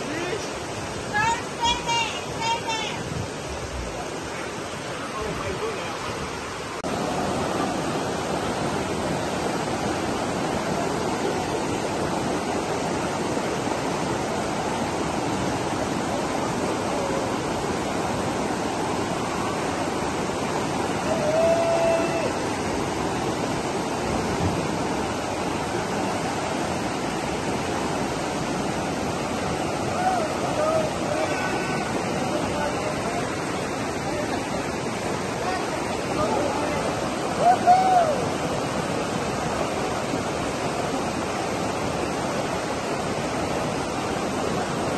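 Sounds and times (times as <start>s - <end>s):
river rapids rushing: 0.0s - 44.9s.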